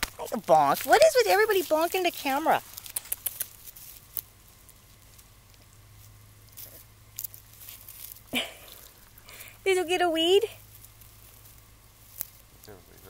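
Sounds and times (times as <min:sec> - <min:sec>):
dry grass rustling and crackling: 0:00.0 - 0:13.0.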